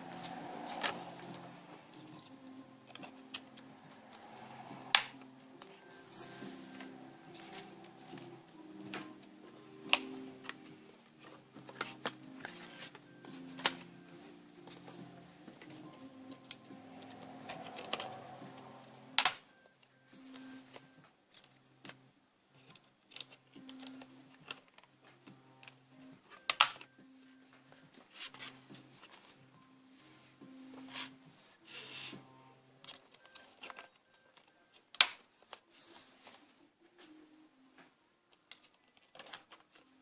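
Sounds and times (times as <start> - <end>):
soft background music: 0.0 - 40.0.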